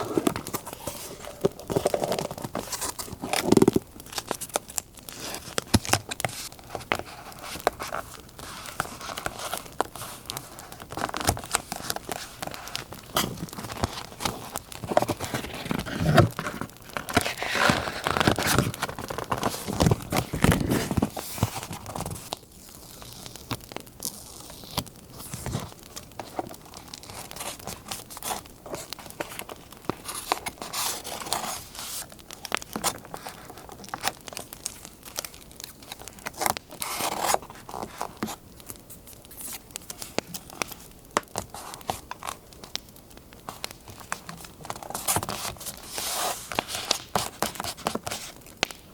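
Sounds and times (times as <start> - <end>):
paper crinkling: 0.0 - 48.9.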